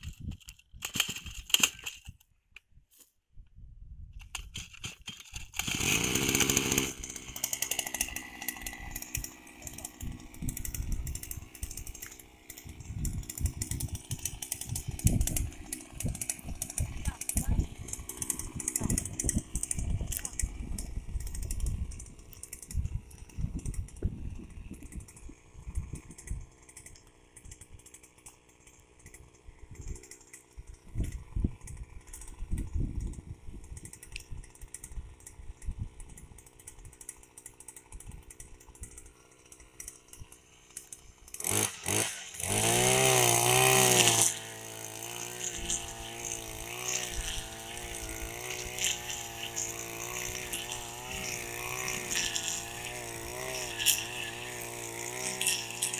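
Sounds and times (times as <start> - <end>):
brush cutter engine revving: 4.3 - 55.9.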